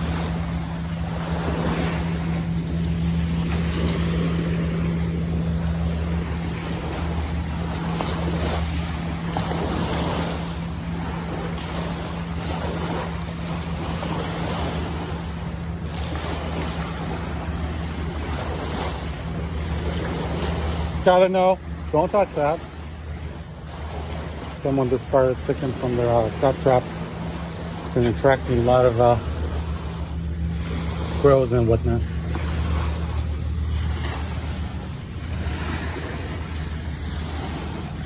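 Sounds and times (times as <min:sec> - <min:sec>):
low mechanical hum: 0:00.0 - 0:38.0
small waves lapping on gravel: 0:00.0 - 0:38.0.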